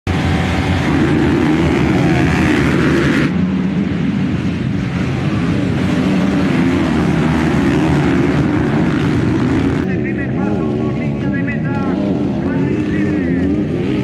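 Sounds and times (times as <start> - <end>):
motocross bike engines running: 0.1 - 14.0.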